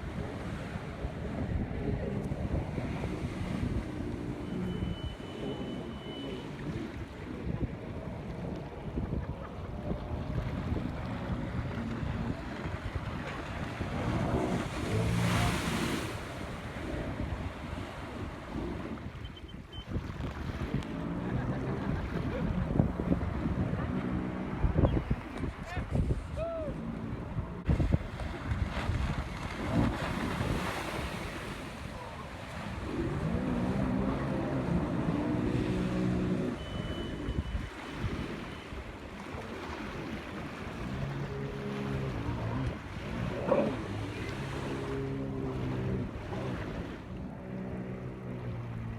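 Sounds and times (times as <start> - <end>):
wind buffeting microphone: 0.0 - 5.6, 6.4 - 48.9
jet ski engine: 0.0 - 48.9.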